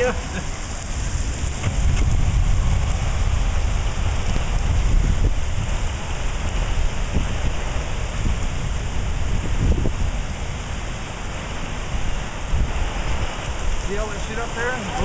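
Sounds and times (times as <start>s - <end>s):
storm wind and rain: 0.0s - 15.0s
wind gusts buffeting microphone: 0.0s - 15.0s.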